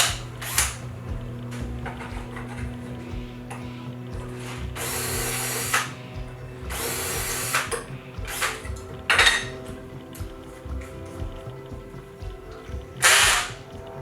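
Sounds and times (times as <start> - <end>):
power drill running: 0.0 - 13.9.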